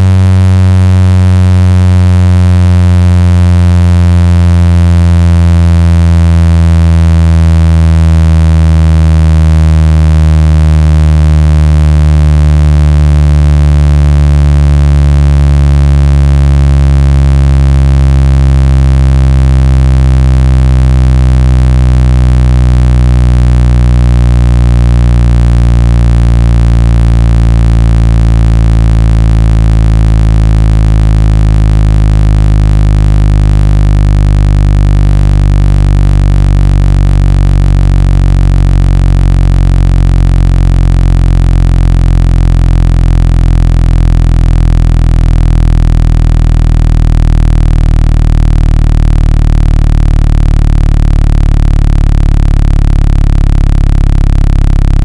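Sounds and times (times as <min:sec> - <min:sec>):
synthesized low buzzing tone: 0:00.0 - 0:55.0.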